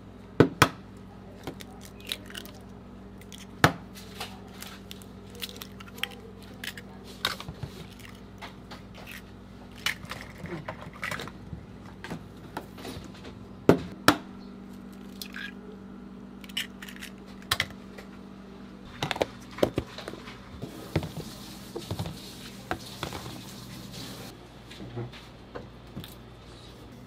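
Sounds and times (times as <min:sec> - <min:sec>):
steady low hum: 0:00.0 - 0:22.7.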